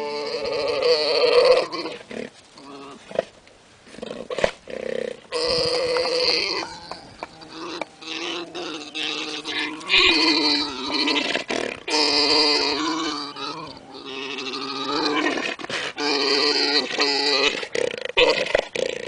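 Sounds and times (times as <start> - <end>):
llamas calling: 0.0 - 3.1, 4.7 - 18.5.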